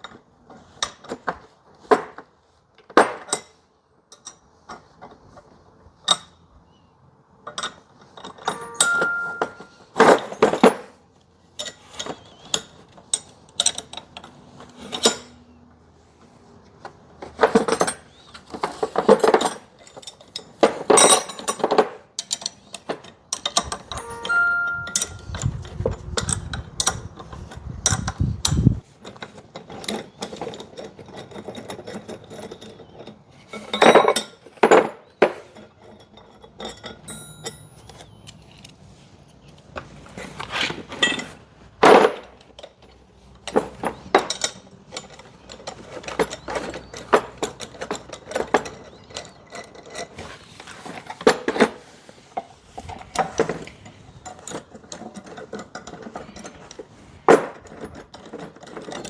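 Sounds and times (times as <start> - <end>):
metal clinks and knocks: 7.4 - 15.4, 16.2 - 38.7, 39.7 - 51.8, 52.8 - 59.0.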